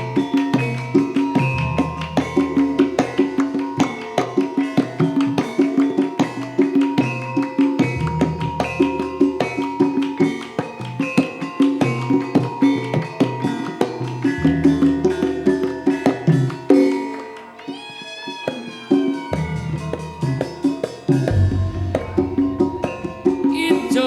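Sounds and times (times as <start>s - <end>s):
gamelan music: 0.0s - 24.0s.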